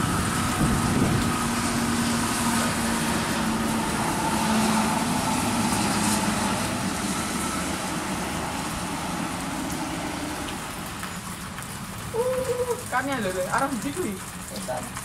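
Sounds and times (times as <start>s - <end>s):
coach engine drone: 0.0s - 12.1s
tyre rush on wet road: 0.0s - 15.0s.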